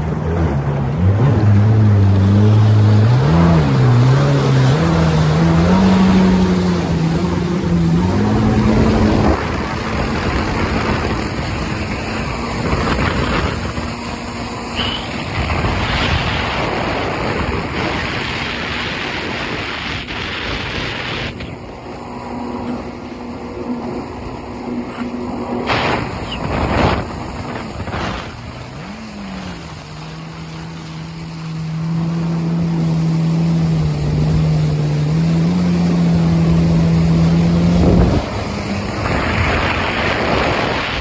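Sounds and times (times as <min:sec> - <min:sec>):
jet ski engine revving: 0:00.0 - 0:41.0
rushing wind and spray: 0:00.0 - 0:41.0.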